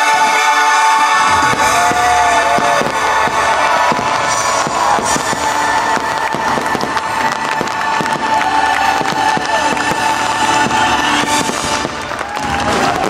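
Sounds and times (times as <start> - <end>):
fireworks bursting: 0.0 - 13.0
loud show music: 0.0 - 13.0.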